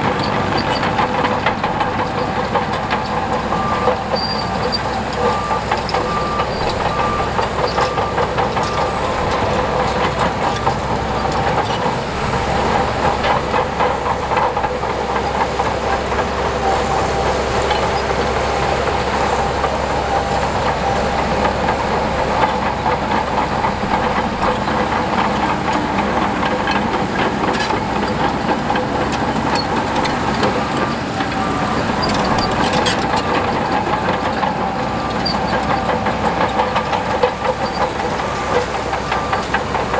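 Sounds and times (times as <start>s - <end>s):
bulldozer diesel engine running: 0.0s - 39.9s
steel tracks clanking: 0.0s - 39.9s.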